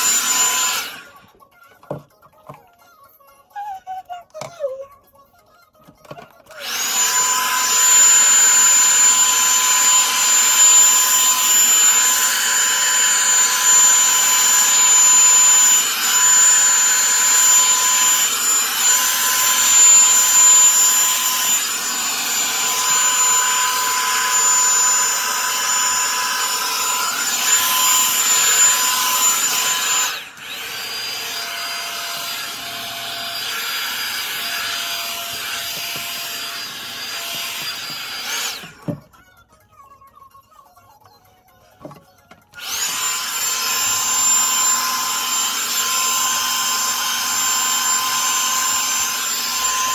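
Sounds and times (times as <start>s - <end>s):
hot-air brush whine: 0.0s - 1.2s, 6.5s - 39.0s, 42.6s - 49.9s.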